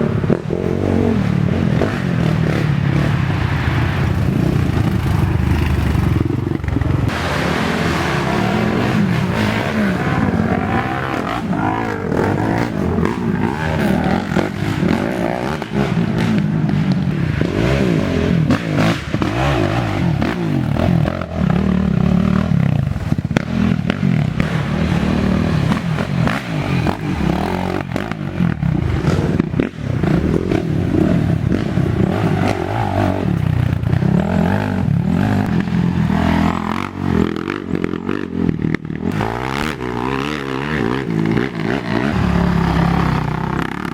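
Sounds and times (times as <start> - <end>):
atv engines revving: 0.0 - 43.9.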